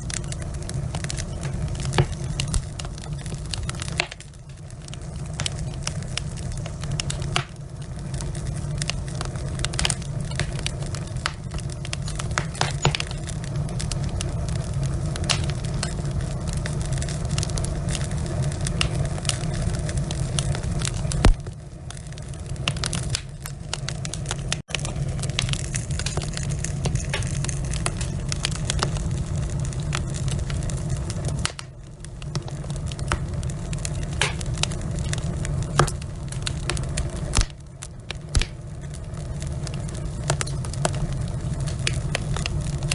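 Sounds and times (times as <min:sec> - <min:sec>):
fireplace logs crackling and popping: 0:00.0 - 0:42.9.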